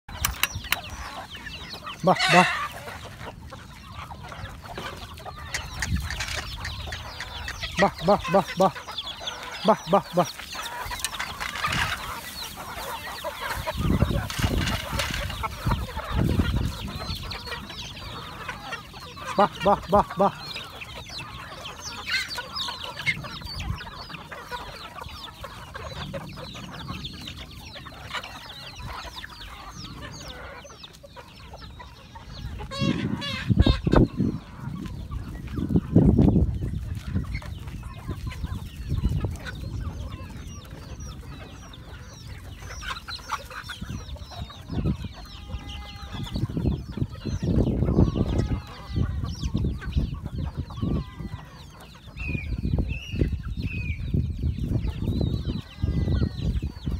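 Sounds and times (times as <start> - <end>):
chickens clucking and chirping: 0.0 - 56.9.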